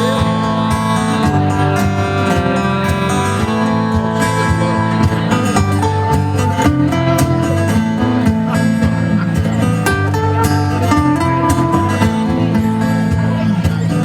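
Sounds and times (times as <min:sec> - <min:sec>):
guitars playing chords: 0:00.0 - 0:14.0.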